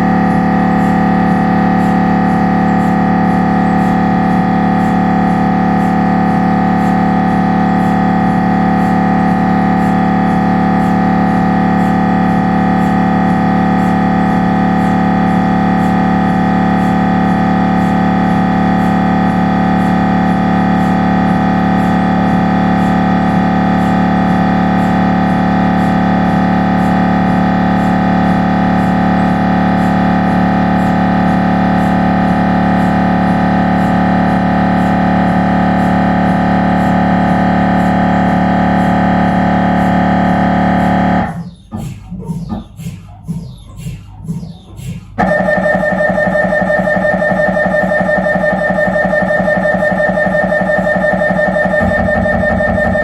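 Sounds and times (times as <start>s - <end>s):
mri scanner buzzing drone: 0.0s - 41.8s, 45.2s - 53.0s.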